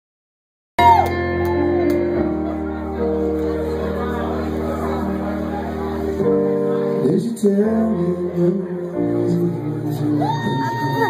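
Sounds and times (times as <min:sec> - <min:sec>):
electric keyboard chords: 0:00.8 - 0:10.3.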